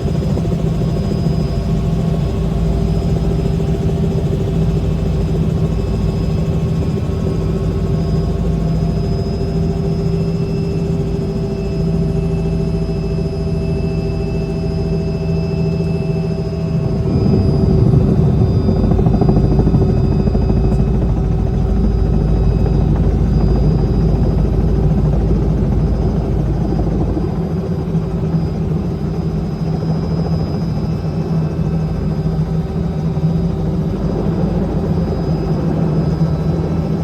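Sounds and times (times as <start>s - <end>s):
helicopter running: 0.0s - 37.0s.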